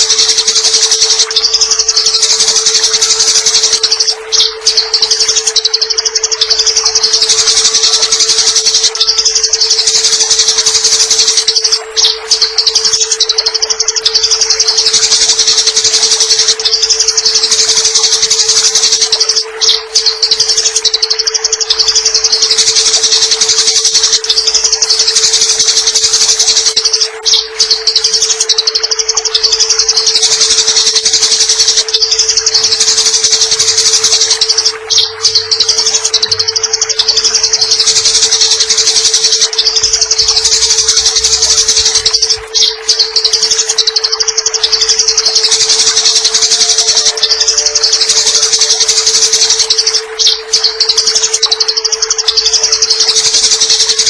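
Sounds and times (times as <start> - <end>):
sparrows chattering: 0.0 - 54.0
steady low hum: 0.0 - 54.0.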